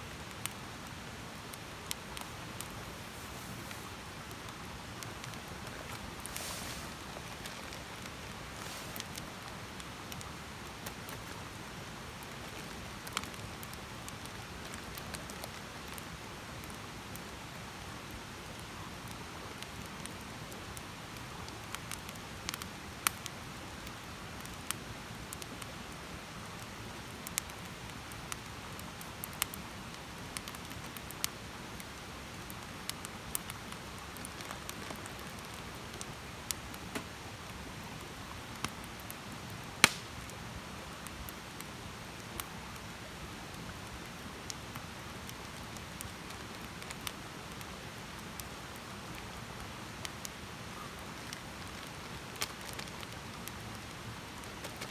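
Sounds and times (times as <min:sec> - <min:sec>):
campfire crackling and hissing: 0:00.0 - 0:54.9.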